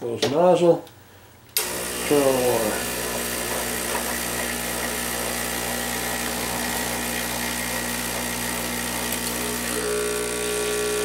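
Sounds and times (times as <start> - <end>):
espresso machine pump buzzing: 1.6 - 11.0.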